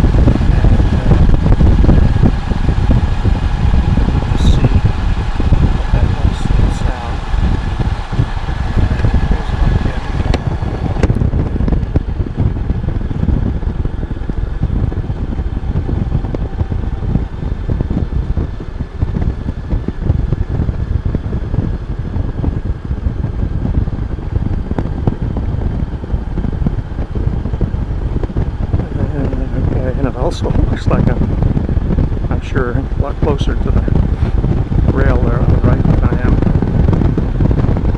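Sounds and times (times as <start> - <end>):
faint motorcycle engine: 0.0 - 37.9
wind buffeting helmet microphone: 0.0 - 37.9.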